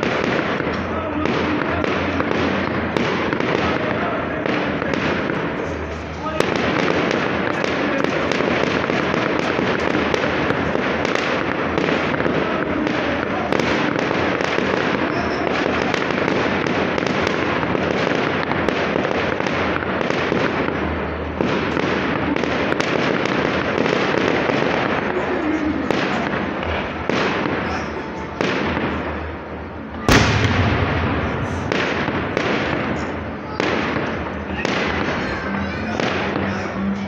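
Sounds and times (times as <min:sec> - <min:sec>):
fireworks crackling and banging: 0:00.0 - 0:37.0.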